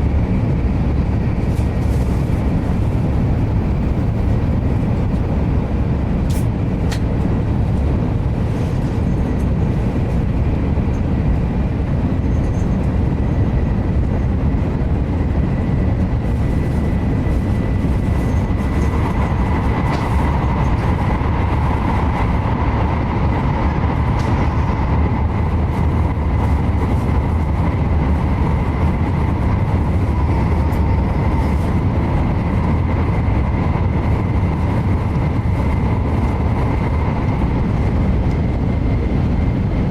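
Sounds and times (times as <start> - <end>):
train rumble inside cabin: 0.0 - 39.9.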